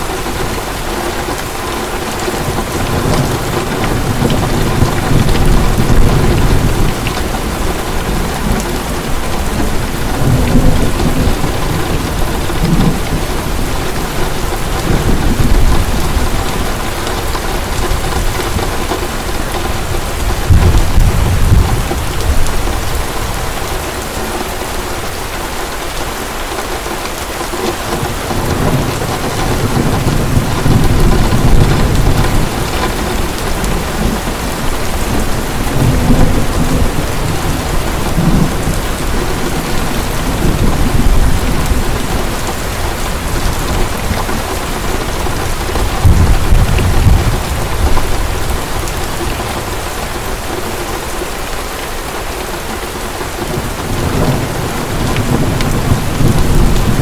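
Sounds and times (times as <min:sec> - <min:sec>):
thunder rumbling: 0:00.0 - 0:24.2, 0:27.8 - 0:51.2, 0:53.2 - 0:57.0
heavy rain: 0:00.0 - 0:57.0.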